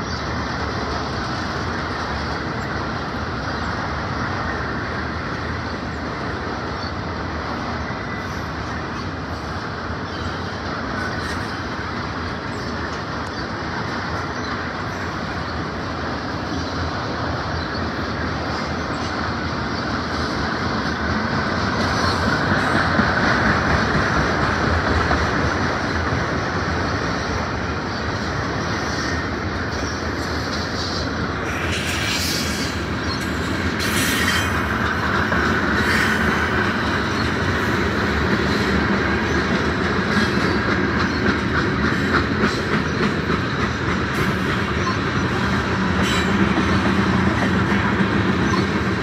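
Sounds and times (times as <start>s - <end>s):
freight train wheels on rail: 0.0s - 49.0s.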